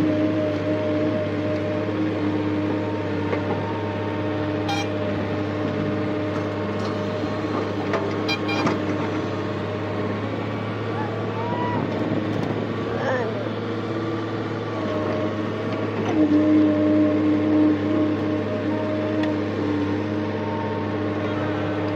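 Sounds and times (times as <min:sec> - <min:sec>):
excavator running: 0:00.0 - 0:21.9.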